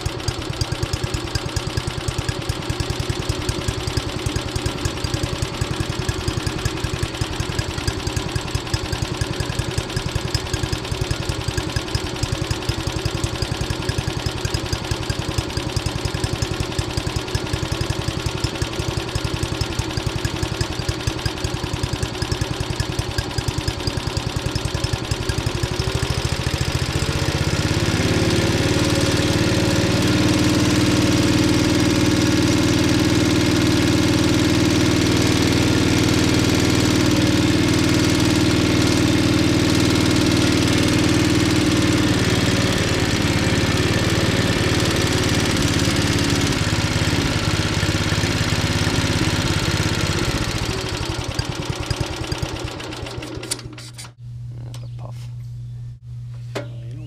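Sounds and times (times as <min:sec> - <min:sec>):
lawn mower engine running: 0:00.0 - 0:54.2.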